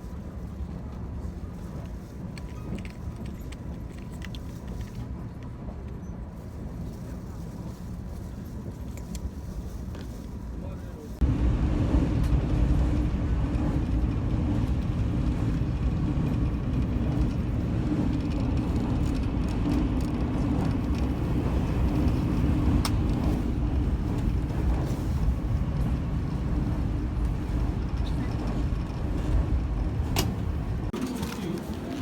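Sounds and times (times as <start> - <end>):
vehicle rumble from inside: 0.0 - 32.0.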